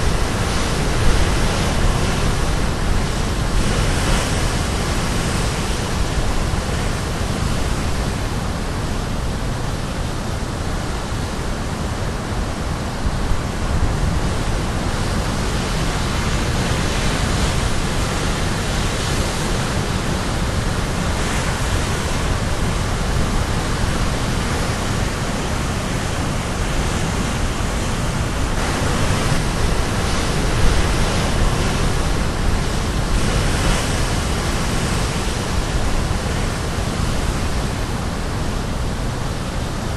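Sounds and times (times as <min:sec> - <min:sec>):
waves crashing on shore: 0:00.0 - 0:39.9.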